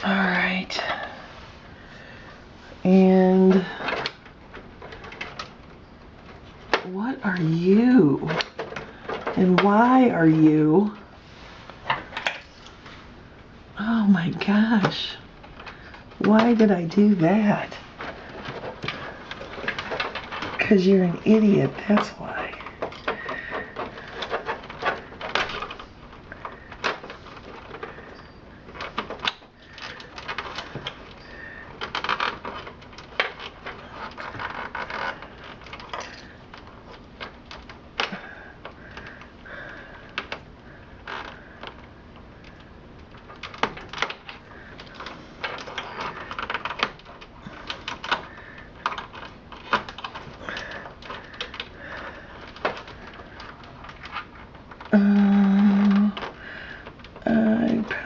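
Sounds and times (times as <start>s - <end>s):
cables rustling and scraping: 0.0s - 58.0s.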